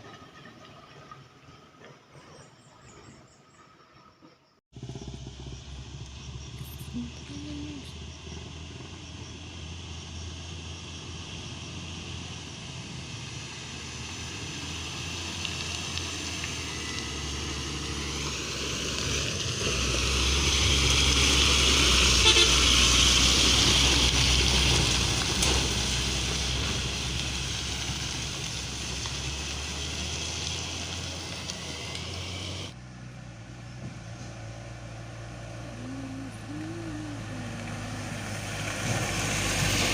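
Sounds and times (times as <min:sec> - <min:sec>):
diesel truck engine labouring: 0:04.8 - 0:39.9.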